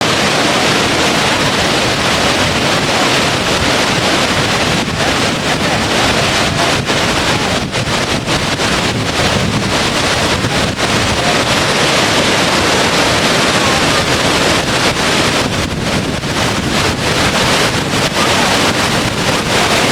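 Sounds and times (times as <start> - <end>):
rushing water: 0.0 - 19.9.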